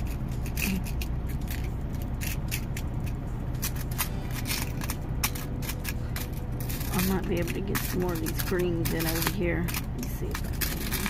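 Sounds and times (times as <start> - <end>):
metal charms clinking: 0.0 - 11.0
steady low rumble: 0.0 - 11.0.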